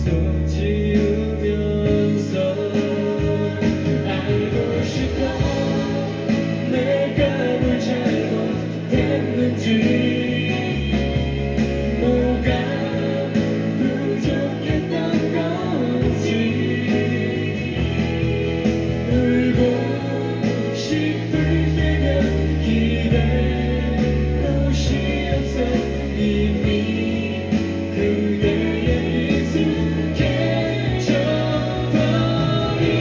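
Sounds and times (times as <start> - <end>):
live pop ballad with band: 0.0 - 33.0
person singing: 0.0 - 33.0.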